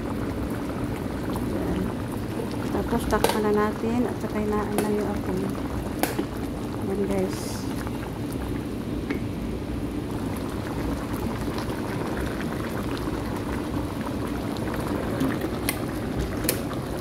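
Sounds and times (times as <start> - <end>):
sauce bubbling in a pan: 0.0 - 17.0.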